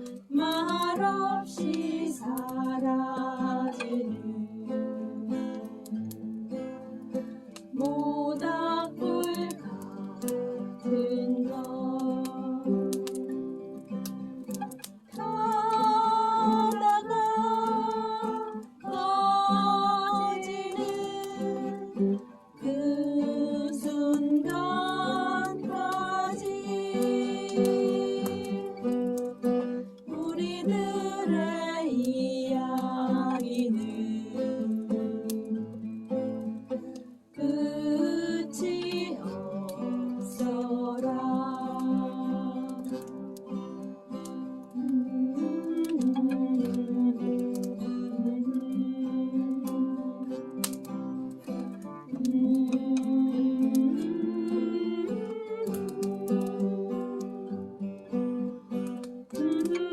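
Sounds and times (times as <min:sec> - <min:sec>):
person singing: 0:00.0 - 0:06.0, 0:07.7 - 0:58.4, 0:59.2 - 0:59.9
acoustic guitar: 0:00.0 - 0:59.9.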